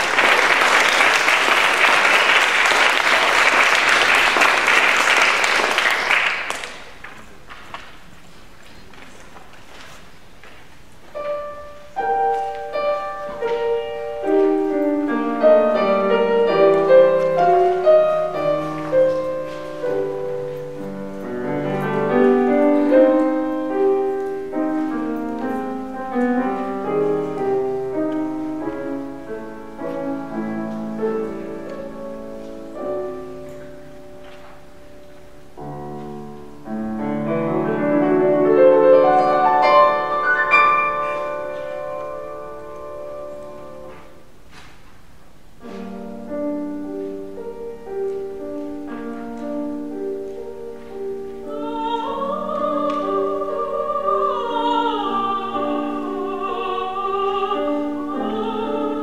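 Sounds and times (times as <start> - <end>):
solo piano classical music: 10.2 - 59.0.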